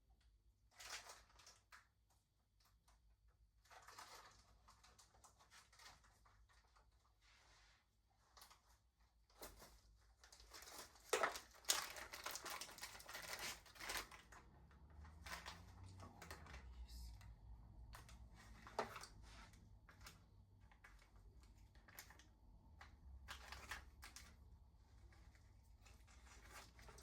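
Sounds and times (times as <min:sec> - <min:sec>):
rustling: 0:03.6 - 0:27.0.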